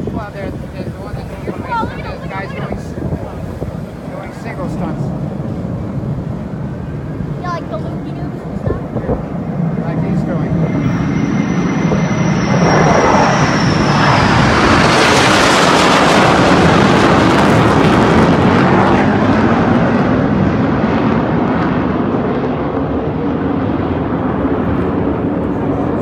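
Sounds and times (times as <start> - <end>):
jet aircraft roar: 0.0 - 26.0.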